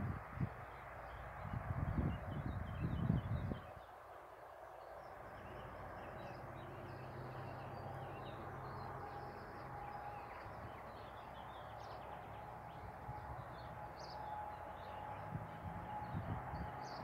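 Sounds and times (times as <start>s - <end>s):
traffic rushing past: 0.0s - 17.0s
birds chirping: 0.6s - 17.0s.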